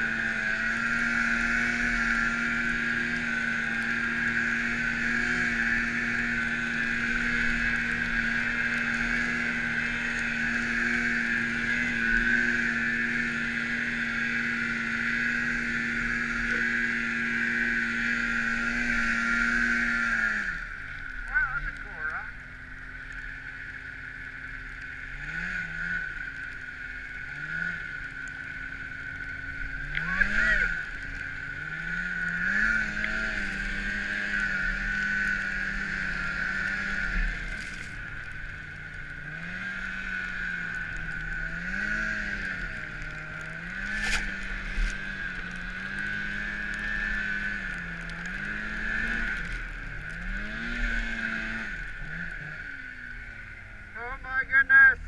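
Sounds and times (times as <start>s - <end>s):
snowmobile engine revving: 0.0s - 22.5s, 23.3s - 55.0s
steady high whine: 0.0s - 50.4s.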